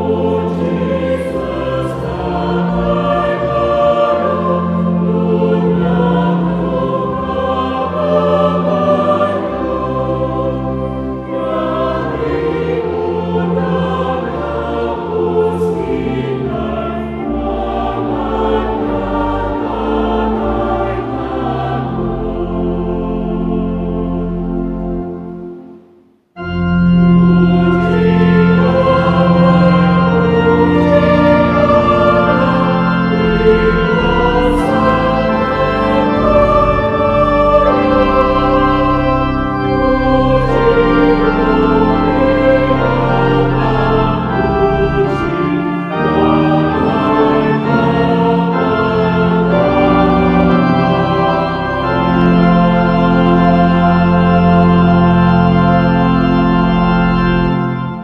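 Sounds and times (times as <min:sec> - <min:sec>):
choir singing: 0:00.0 - 0:58.0
organ playing slow chords: 0:00.0 - 0:58.0.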